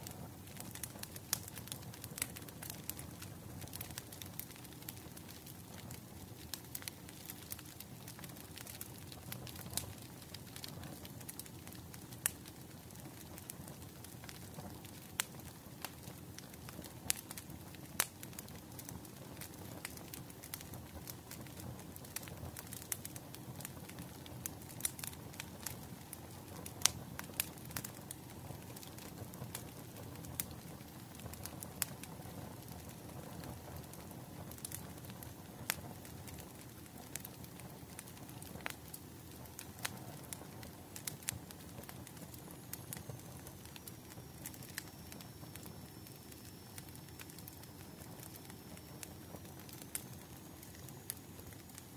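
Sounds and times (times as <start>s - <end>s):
bonfire crackling: 0.0s - 51.9s.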